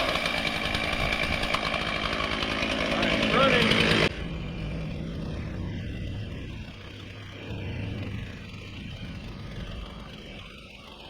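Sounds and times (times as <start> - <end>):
low steady engine hum: 0.8 - 11.0.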